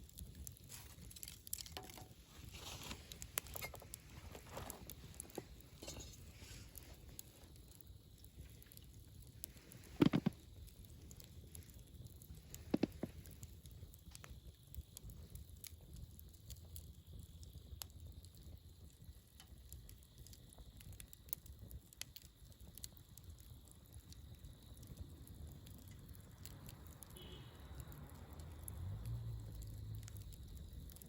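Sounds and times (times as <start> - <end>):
campfire crackling and popping: 0.0 - 31.0
low steady fire rumble: 0.0 - 31.0.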